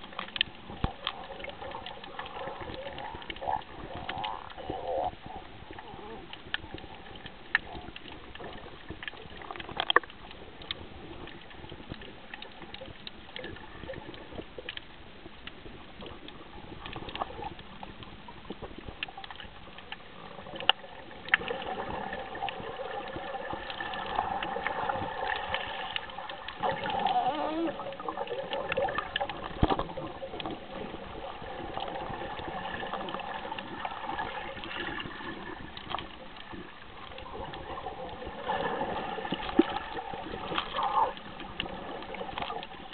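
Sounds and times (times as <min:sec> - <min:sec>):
sharp underwater clicks: 0:00.0 - 0:42.9
water sloshing and trickling: 0:00.0 - 0:42.9.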